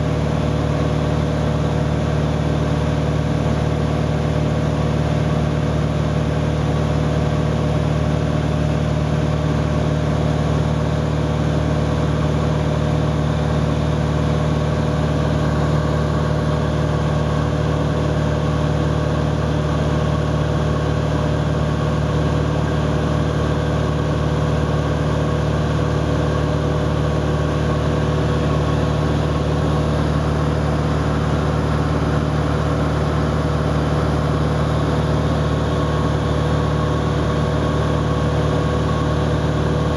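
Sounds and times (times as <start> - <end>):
propeller airplane engine droning: 0.0 - 39.9.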